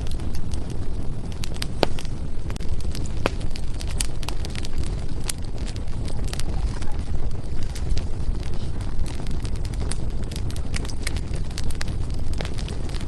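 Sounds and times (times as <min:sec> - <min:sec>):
firewood crackling and popping: 0:00.0 - 0:13.0
steady low fire rumble: 0:00.0 - 0:13.0.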